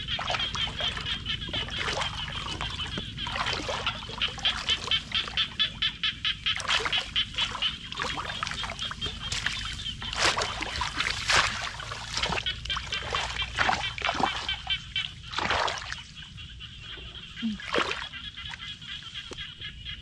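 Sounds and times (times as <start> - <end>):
muddy water splashing and sloshing: 0.0 - 20.0.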